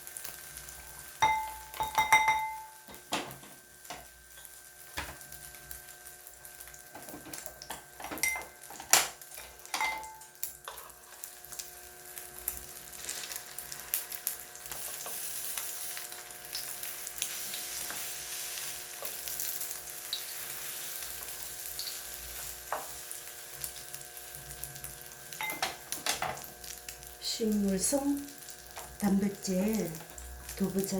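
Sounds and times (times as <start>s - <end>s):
tofu sizzling in a frying pan: 0.0s - 1.8s, 3.0s - 30.9s.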